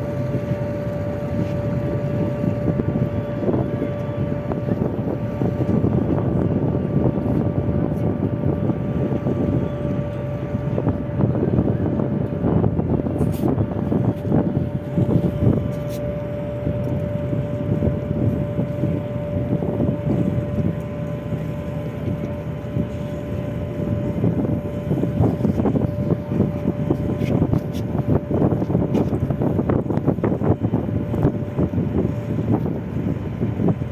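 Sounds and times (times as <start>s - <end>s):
engine running with whine: 0.0s - 33.9s
wind buffeting microphone: 0.0s - 33.9s.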